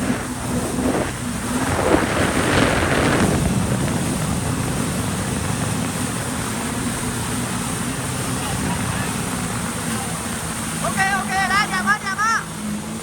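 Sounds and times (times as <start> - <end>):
jet ski engine hum: 0.0 - 13.0
wind and water spray on microphone: 0.0 - 13.0.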